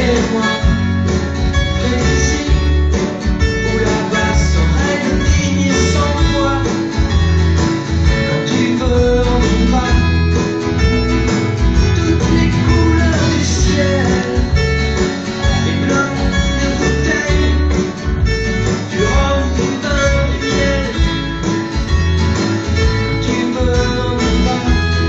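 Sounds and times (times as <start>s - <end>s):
acoustic guitars strumming chords: 0.0s - 25.0s.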